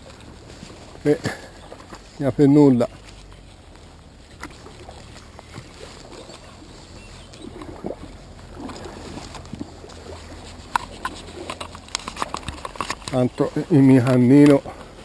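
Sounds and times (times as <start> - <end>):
river water splashing on bank: 0.0 - 15.0.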